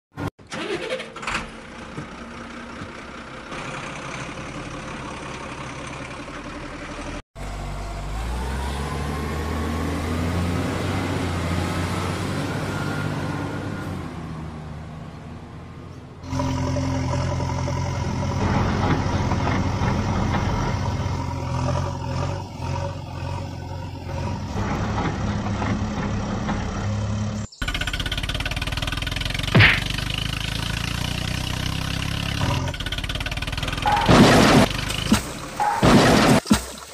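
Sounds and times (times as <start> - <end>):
vehicle engine revving: 1.2 - 36.4.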